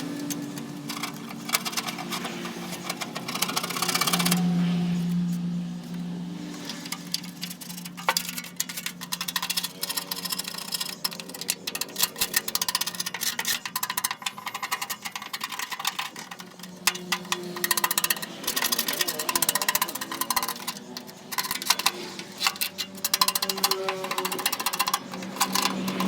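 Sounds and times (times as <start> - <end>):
scrubbing on metal: 0.0 - 26.0.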